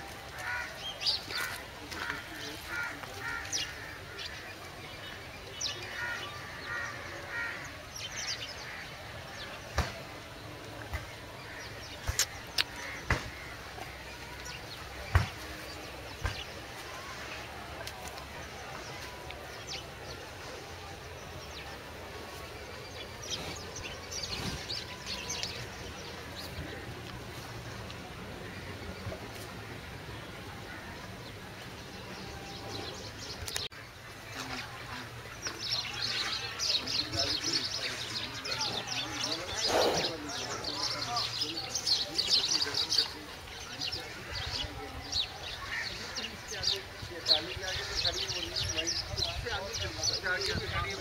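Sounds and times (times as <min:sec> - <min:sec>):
low background noise: 0:00.0 - 0:51.0
birds chirping and calling: 0:00.1 - 0:51.0.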